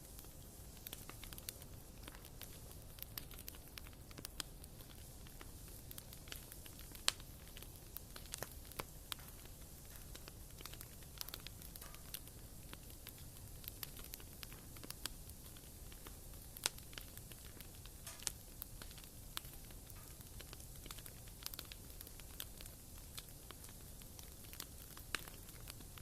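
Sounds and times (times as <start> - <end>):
faint low hiss: 0.0 - 26.0
wood fire crackling and popping: 0.0 - 26.0.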